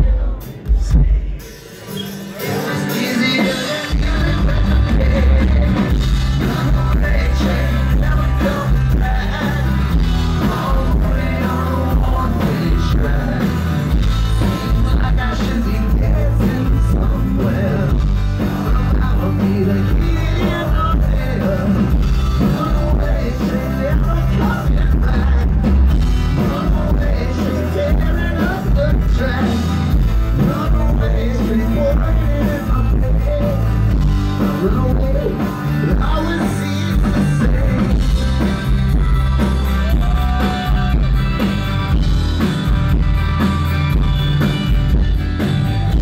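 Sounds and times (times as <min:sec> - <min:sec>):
lead singer singing: 0:00.0 - 0:41.5
live rock band playing: 0:00.0 - 0:46.0.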